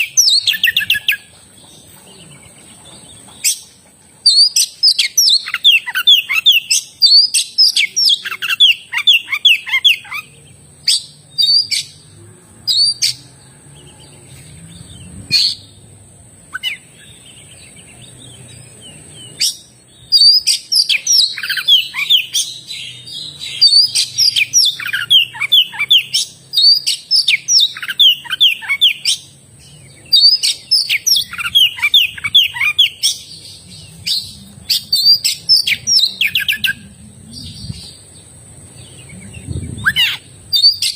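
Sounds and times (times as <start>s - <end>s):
bird singing whistled notes: 0.0s - 1.3s, 4.3s - 15.8s, 16.5s - 40.9s.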